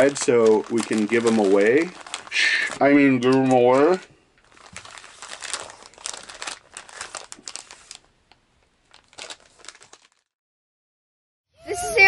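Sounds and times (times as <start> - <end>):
plastic packs crinkling: 0.0 - 10.3.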